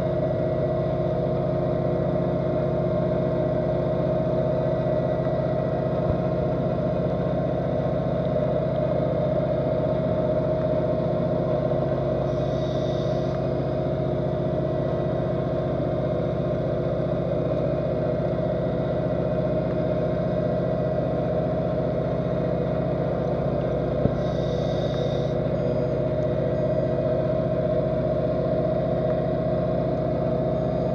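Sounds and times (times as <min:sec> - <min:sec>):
underwater ship engine drone: 0:00.0 - 0:30.9.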